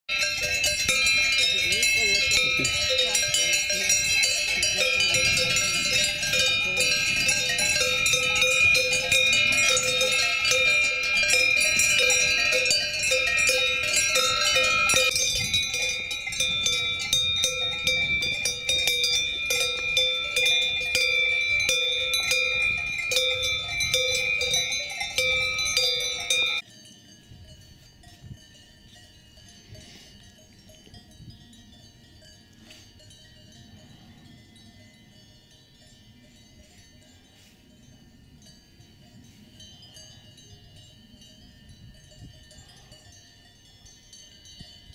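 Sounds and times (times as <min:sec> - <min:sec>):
cowbells clanking and ringing: 0:00.1 - 0:44.9.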